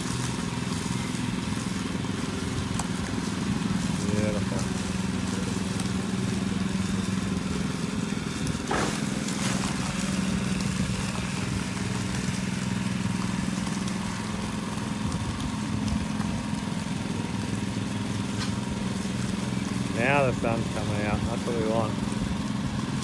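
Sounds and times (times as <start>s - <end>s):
small petrol engine running: 0.0s - 23.0s.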